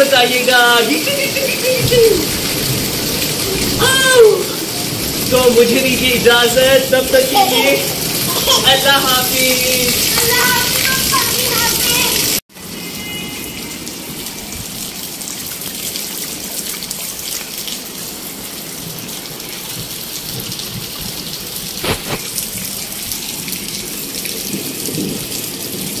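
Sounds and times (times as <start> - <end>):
rain on concrete and rooftops: 0.0 - 26.0.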